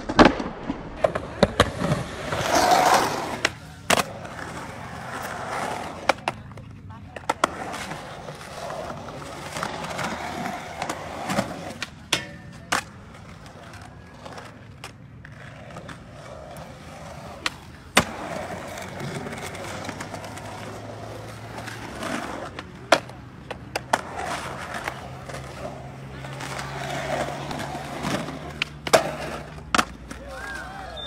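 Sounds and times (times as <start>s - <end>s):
skateboard clacking: 0.0s - 31.0s
skateboard wheels rolling on concrete: 0.0s - 31.0s.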